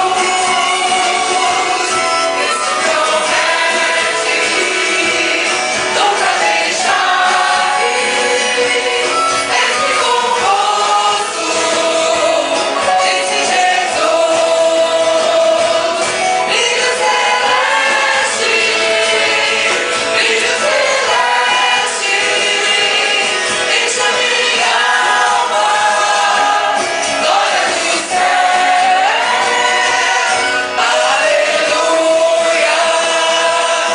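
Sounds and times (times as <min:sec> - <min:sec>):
choir singing gospel song: 0:00.0 - 0:33.9.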